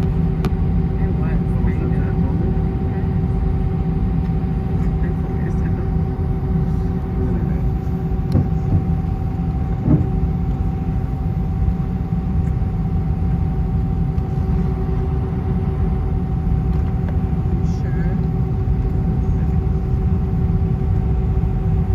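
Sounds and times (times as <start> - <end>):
aircraft cabin engine rumble: 0.0 - 21.9.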